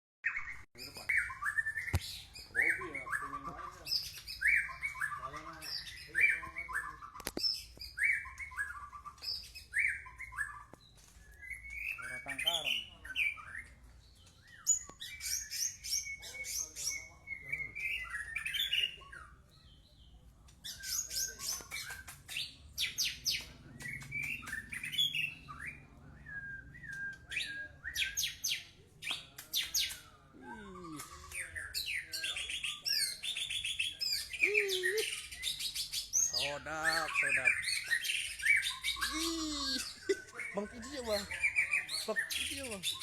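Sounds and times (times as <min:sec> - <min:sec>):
bird trills and whistles: 0:00.2 - 0:19.9, 0:20.6 - 0:43.0.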